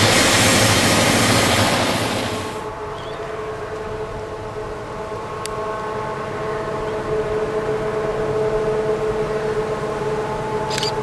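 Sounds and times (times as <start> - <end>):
diesel locomotive drone: 0.0 - 11.0.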